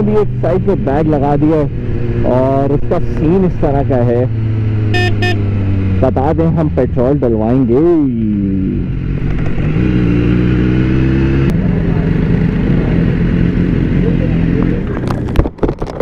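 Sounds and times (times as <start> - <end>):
motorcycle engine slowing and idling: 0.0 - 16.0.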